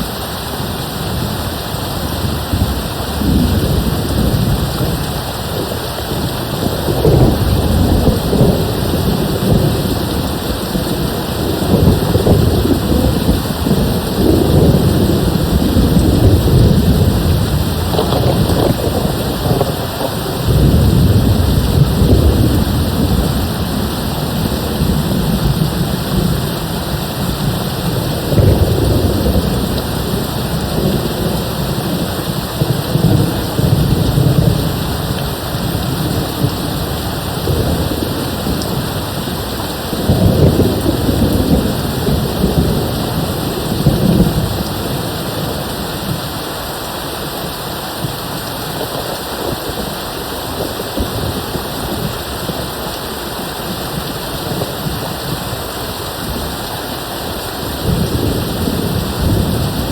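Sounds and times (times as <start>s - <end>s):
distant thunder rumbling: 0.0s - 46.5s, 57.3s - 59.9s
heavy rain: 0.0s - 59.9s.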